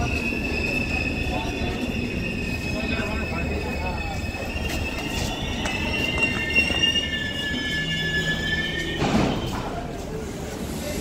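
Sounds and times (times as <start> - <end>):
train brakes squealing: 0.0 - 10.2.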